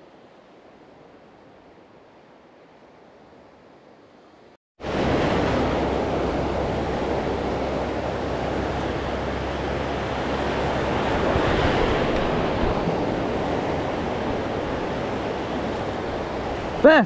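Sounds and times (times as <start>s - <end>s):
waves breaking in shallow surf: 0.0s - 17.0s
wind rumbling on microphone: 0.3s - 16.9s.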